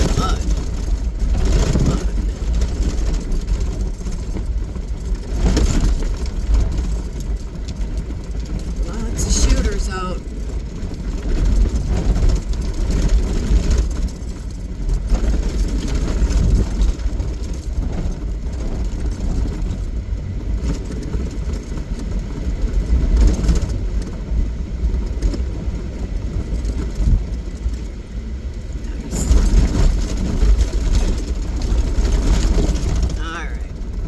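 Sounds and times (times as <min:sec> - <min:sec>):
off-road vehicle engine rumbling: 0:00.0 - 0:34.0
vehicle knocks and rattles: 0:00.0 - 0:34.0.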